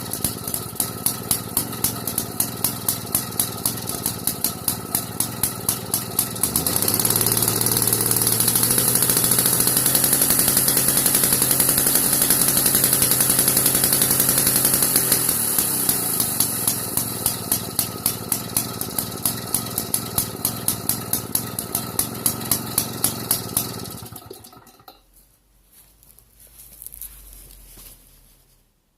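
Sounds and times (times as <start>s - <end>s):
chainsaw engine idling and revving: 0.0s - 24.9s.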